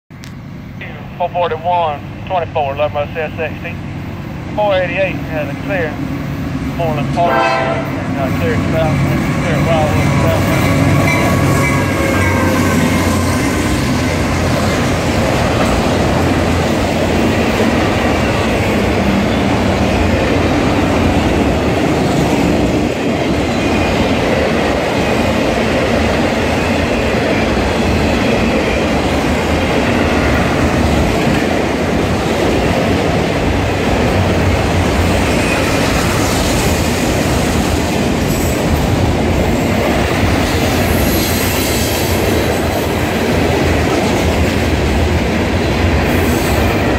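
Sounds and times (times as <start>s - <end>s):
freight train passing: 0.1s - 46.9s.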